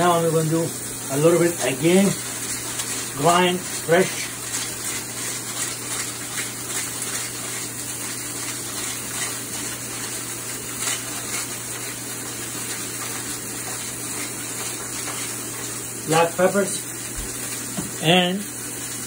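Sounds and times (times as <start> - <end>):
steaks sizzling in a pan: 0.0 - 19.0.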